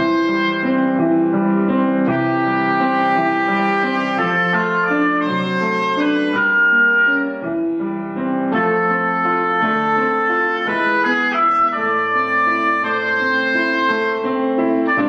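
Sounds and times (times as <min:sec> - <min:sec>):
oboe melody: 0:00.0 - 0:15.0
piano chords: 0:00.0 - 0:15.0.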